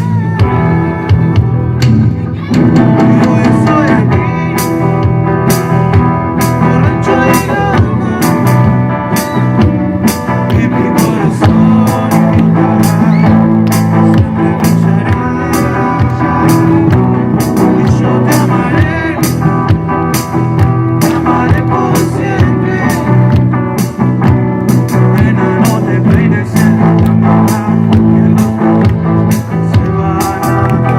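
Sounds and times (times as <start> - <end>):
live rock band playing: 0.0 - 30.9
steady drum beat: 0.0 - 30.9.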